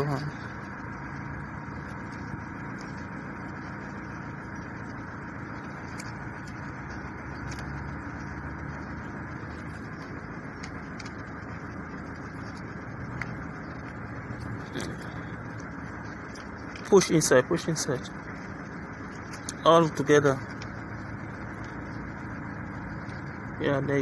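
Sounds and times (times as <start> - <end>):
engine rumble with low hum: 0.0 - 24.0.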